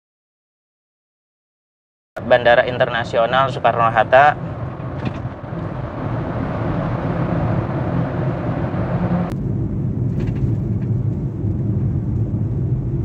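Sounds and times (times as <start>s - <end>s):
car road and engine rumble: 2.2s - 13.0s.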